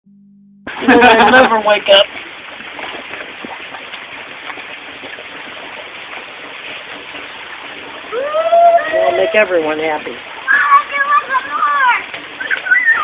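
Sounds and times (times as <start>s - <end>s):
rain falling: 0.7s - 13.0s.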